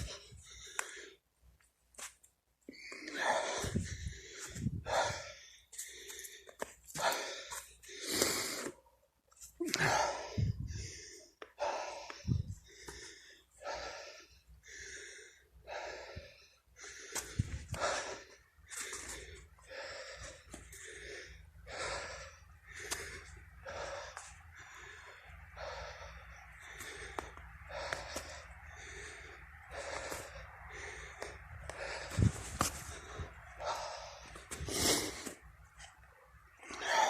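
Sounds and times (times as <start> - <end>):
runner's heavy rhythmic breathing: 0.0 - 1.3, 2.7 - 9.0, 9.7 - 37.0.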